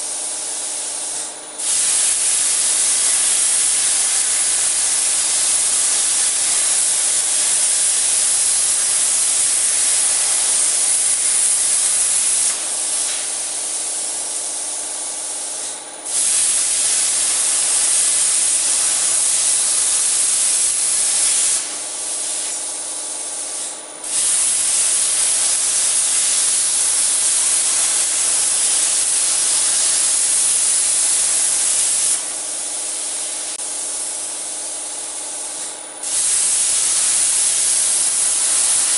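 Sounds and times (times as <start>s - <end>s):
plasma torch hissing: 0.0s - 38.9s.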